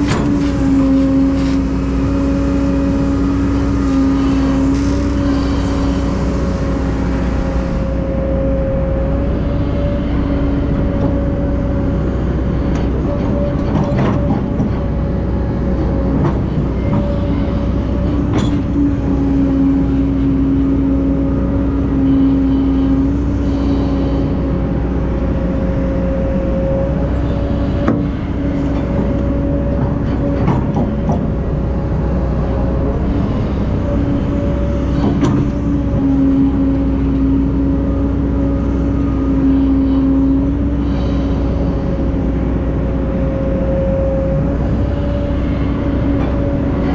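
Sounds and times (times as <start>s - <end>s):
heavy diesel machinery rumbling: 0.0s - 46.9s.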